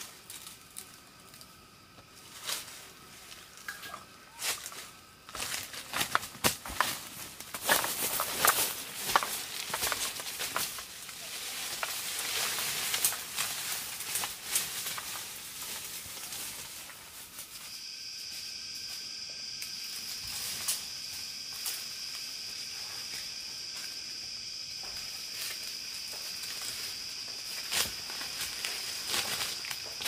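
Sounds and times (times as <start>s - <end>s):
rustling in dry undergrowth: 1.8s - 19.1s, 19.7s - 30.0s.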